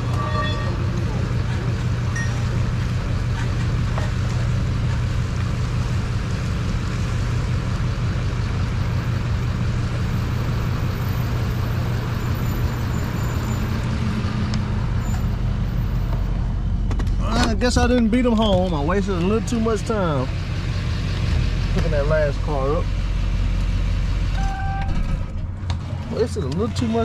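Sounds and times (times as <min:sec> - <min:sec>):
truck engine hum: 0:00.0 - 0:27.0
tyre and road noise: 0:00.0 - 0:27.0.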